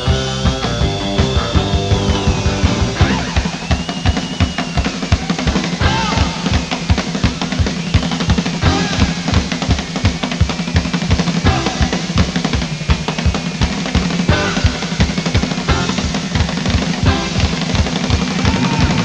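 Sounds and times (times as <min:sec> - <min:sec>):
rock music with driving drums: 0:00.0 - 0:19.0.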